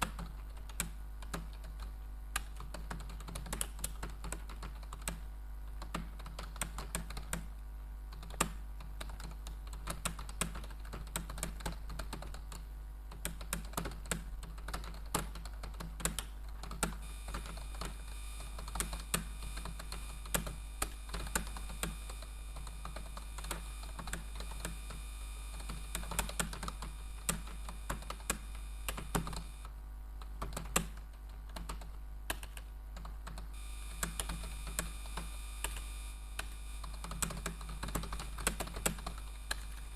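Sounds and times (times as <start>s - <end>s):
keyboard keystroke clicks: 0.0s - 7.5s, 8.2s - 39.8s
steady low hum: 0.0s - 39.9s.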